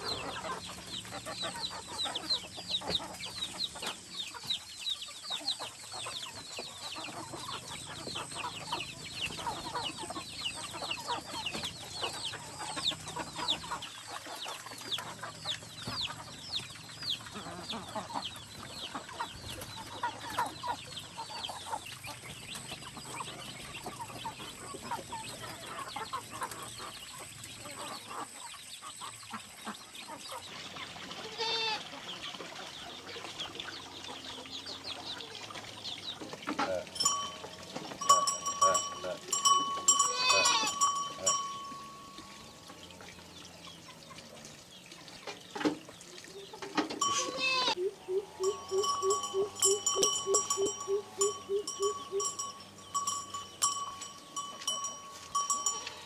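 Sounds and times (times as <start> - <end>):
chickens clucking: 0.0 - 56.0
chicks cheeping: 0.0 - 56.0.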